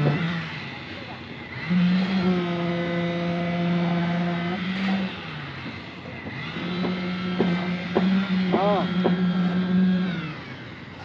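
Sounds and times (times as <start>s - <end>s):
concrete mixer engine running: 0.0s - 11.0s.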